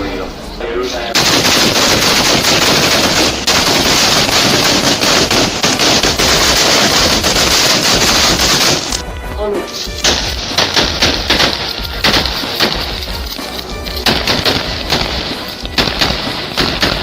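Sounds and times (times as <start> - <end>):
firecrackers banging: 1.1 - 17.0.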